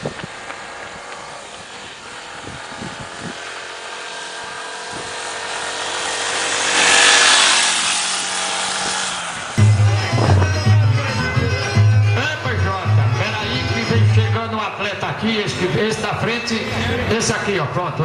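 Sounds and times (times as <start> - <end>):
vehicle engine passing by: 0.0 - 18.0.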